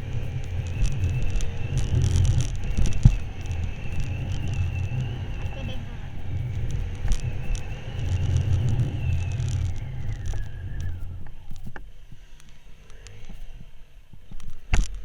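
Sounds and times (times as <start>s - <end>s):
motorcycle engine whine: 0.0s - 15.0s.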